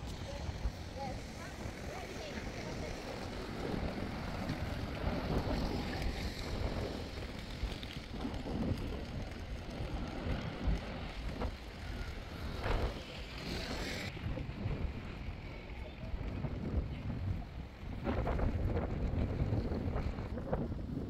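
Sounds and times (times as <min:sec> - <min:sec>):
street traffic: 0:00.0 - 0:21.0
wind buffeting microphone: 0:00.0 - 0:21.0.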